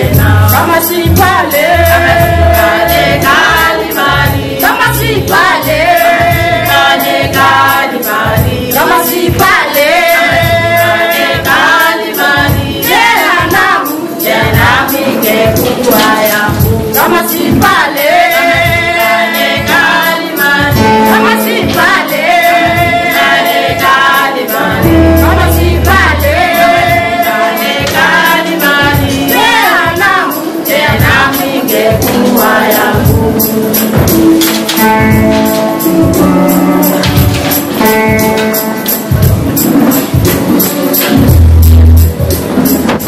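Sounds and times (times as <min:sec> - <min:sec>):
steady beat: 0:00.0 - 0:43.0
tambourine: 0:00.0 - 0:43.0
women singing together: 0:00.0 - 0:43.0.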